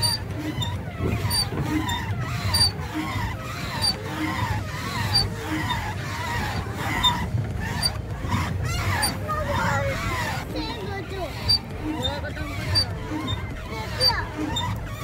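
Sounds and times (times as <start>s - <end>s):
pedal crank squeaking: 0.0s - 15.0s.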